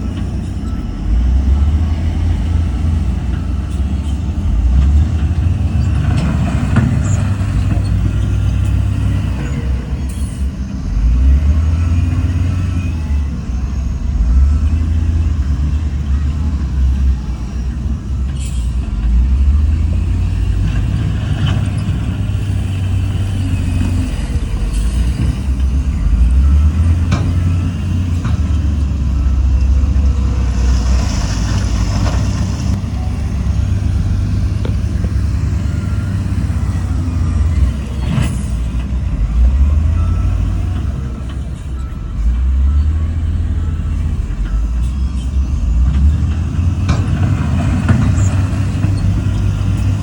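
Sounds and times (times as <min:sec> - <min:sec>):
heavy diesel machinery rumbling: 0:00.0 - 0:50.0.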